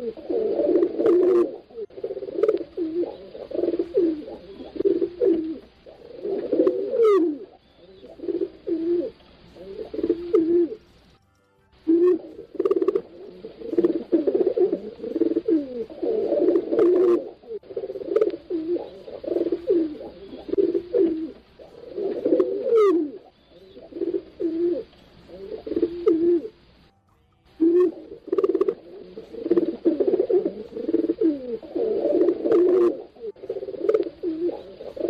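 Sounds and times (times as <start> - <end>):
pigeons cooing: 0.0 - 11.1, 11.9 - 26.8, 27.6 - 35.0
high rising chirp: 0.0 - 35.0.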